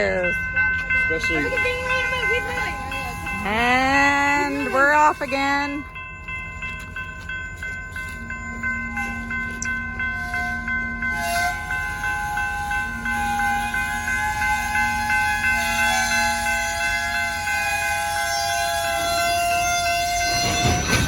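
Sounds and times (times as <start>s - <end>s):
railroad crossing bell ringing: 0.0s - 21.0s
train rolling: 0.0s - 21.0s.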